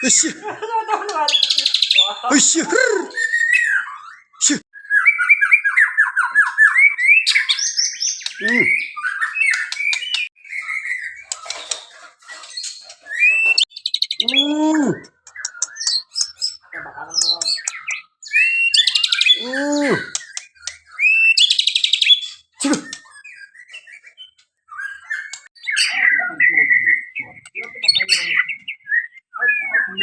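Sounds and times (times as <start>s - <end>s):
low arching bird calls: 0.0s - 30.0s
songbird singing trills: 1.3s - 30.0s.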